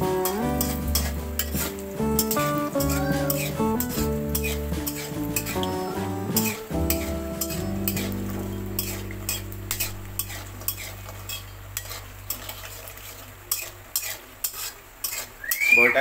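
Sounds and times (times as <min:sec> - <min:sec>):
oil sizzling: 0:00.0 - 0:16.0
spatula scraping metal pan: 0:00.1 - 0:15.4.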